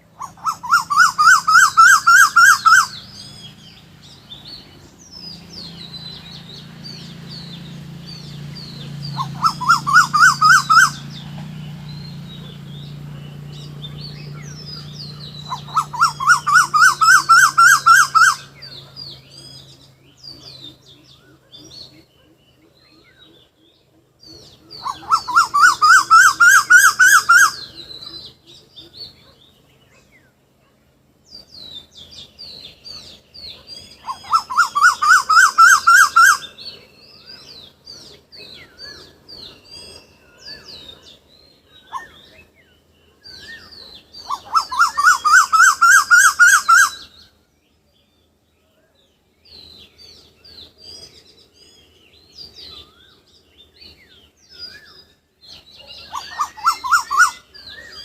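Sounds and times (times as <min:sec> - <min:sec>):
bird calling rising notes: 0:00.0 - 0:22.2, 0:24.2 - 0:29.3, 0:31.4 - 0:47.4, 0:49.8 - 0:58.0
small birds chirping: 0:00.0 - 0:58.0.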